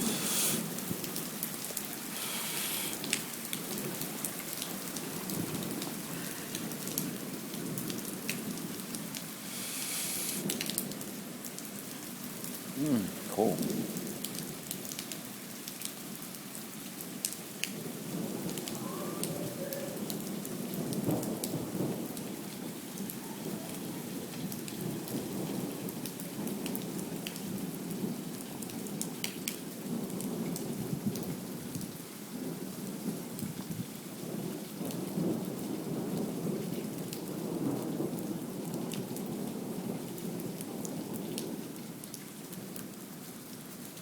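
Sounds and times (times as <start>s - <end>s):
heavy rain: 0.0s - 44.0s
raindrops ticking on surfaces: 0.0s - 44.0s.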